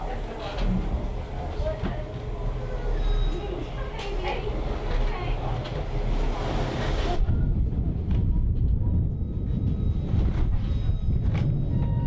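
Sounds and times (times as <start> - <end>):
train car rumbling on rails: 0.0 - 12.0.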